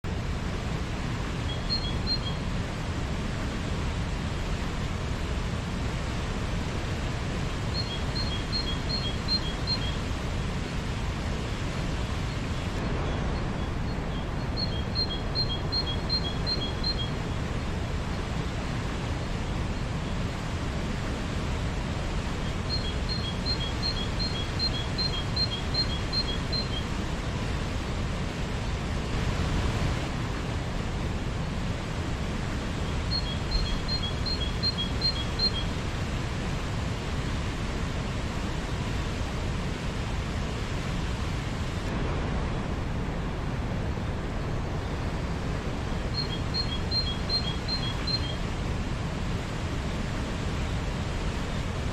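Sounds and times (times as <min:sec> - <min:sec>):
steady rainfall: 0:00.0 - 0:51.9.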